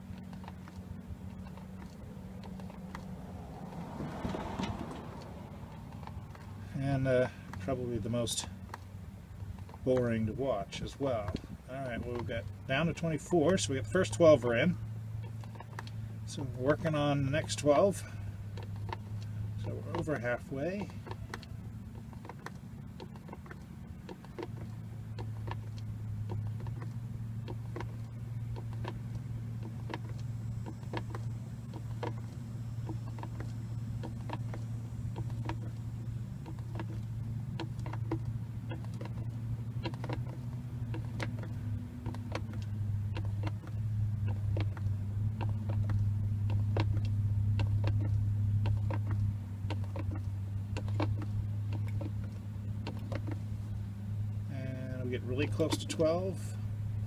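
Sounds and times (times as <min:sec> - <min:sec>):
hand pump plastic clicks: 0:00.0 - 0:57.0
steady low hum: 0:00.0 - 0:57.0.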